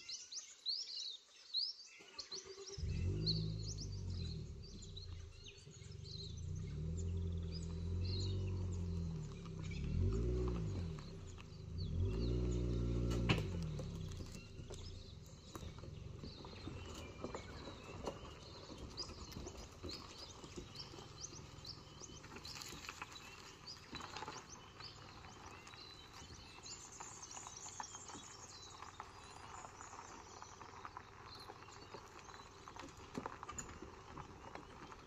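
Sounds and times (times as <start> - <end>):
small birds chirping: 0.0 - 35.0
faint car engine: 2.1 - 35.0
tyres crunching on gravel: 2.2 - 35.0.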